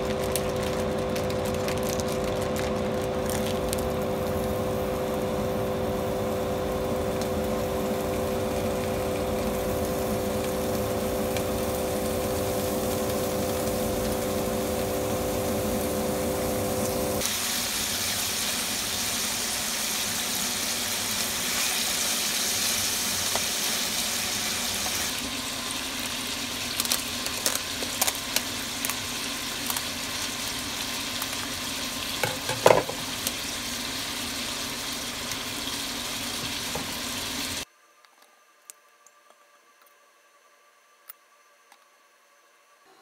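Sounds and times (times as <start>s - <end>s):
meat sizzling in a frying pan: 0.0s - 37.6s.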